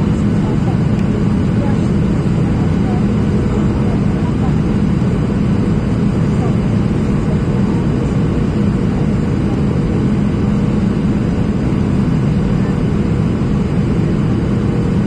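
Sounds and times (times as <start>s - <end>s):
airplane cabin engine rush: 0.0s - 15.0s.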